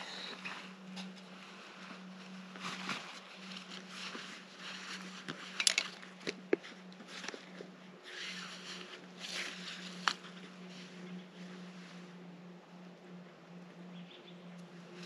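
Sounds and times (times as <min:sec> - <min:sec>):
rustling of clothing and brush: 0:00.0 - 0:12.6
faint low hum: 0:00.0 - 0:15.0.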